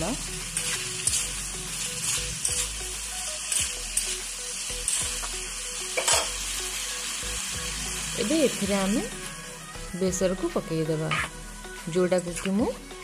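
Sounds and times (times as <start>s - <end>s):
vegetables sizzling in oil: 0.0s - 12.8s.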